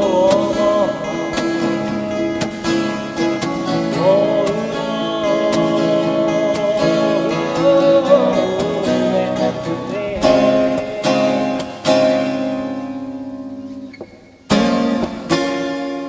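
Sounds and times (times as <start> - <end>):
acoustic guitar strumming: 0.0 - 16.0
sliding lead guitar melody: 0.0 - 16.0.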